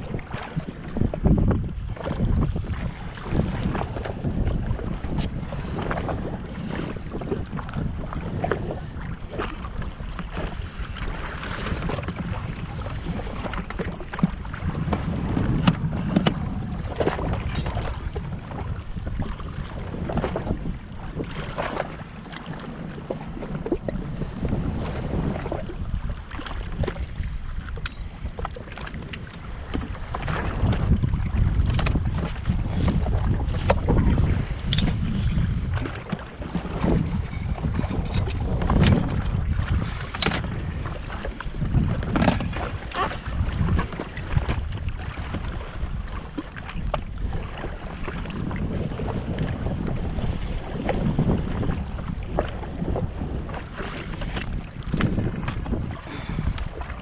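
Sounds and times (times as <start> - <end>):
water splashing against hull: 0.0 - 57.0
wind buffeting microphone: 0.0 - 57.0.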